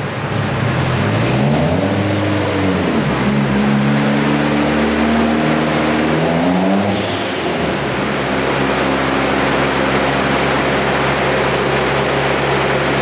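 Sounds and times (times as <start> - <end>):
turbocharged car engine revving: 0.0 - 13.0.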